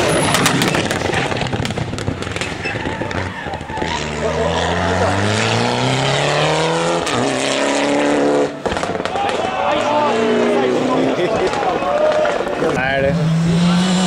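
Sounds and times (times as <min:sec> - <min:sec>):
rally car engine crackling and popping: 0:00.0 - 0:14.0
car engine revving up: 0:02.3 - 0:14.0.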